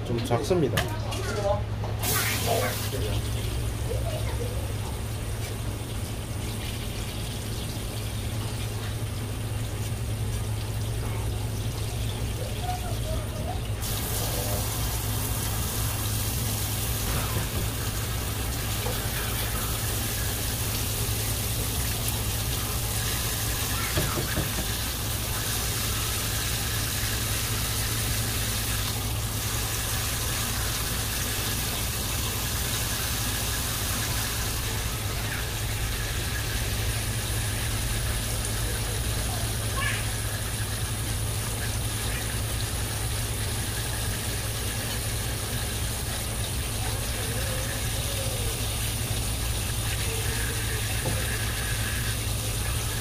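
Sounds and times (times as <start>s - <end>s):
tap water spraying on plastic: 1.8s - 53.0s.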